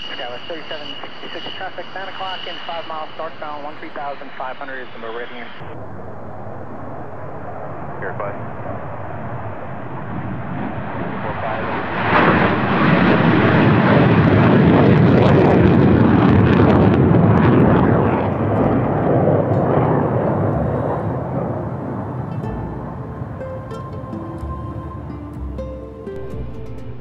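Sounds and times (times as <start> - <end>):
jet engine at takeoff power: 0.0 - 23.3.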